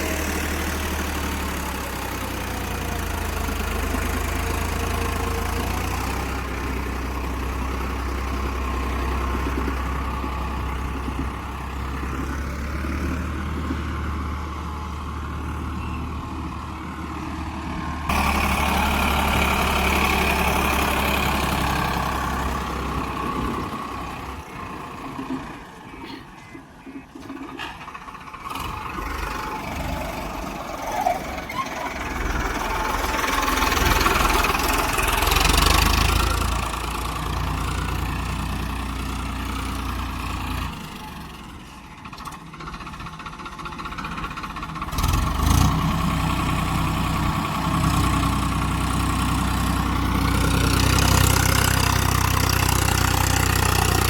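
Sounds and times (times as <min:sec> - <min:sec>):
heavy machine diesel engine: 0:00.0 - 0:54.0.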